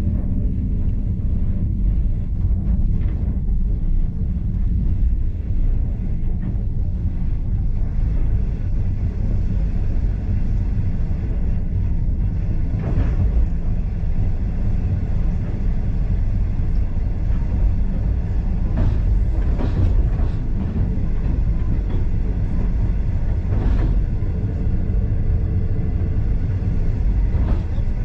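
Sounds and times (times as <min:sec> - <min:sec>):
train rumbling on rails: 0:00.0 - 0:28.0
train clattering: 0:02.2 - 0:28.0.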